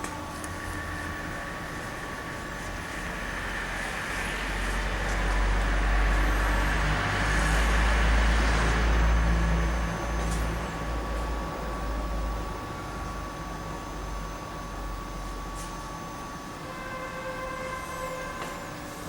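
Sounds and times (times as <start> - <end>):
high-pitched whine: 0.0 - 19.0
machine rumble and hiss: 0.0 - 19.0.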